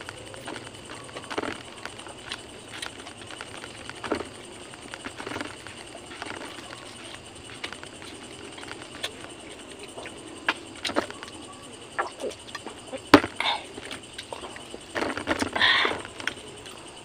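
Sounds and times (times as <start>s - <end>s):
insects chirping: 0.0s - 17.0s
person chewing: 0.0s - 17.0s.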